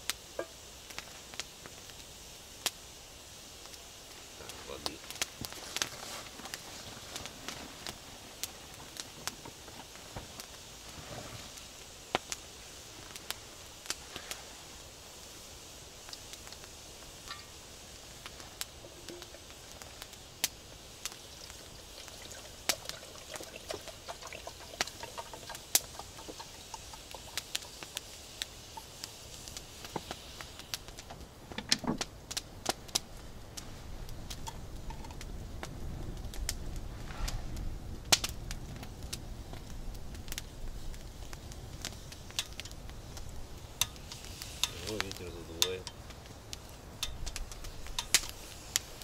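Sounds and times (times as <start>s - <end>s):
steady gas hiss: 0.0s - 49.0s.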